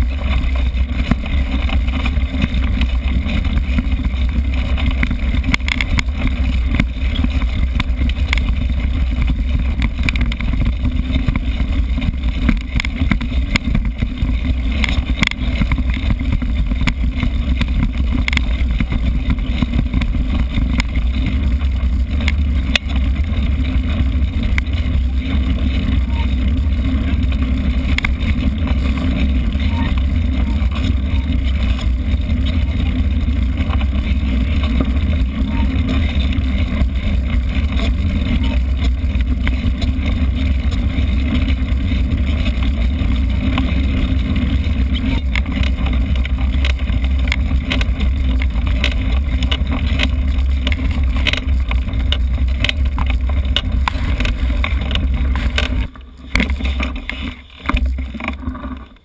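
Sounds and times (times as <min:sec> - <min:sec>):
bike rattling on rough ground: 0:00.0 - 0:59.0
wind buffeting camera: 0:00.0 - 0:59.0.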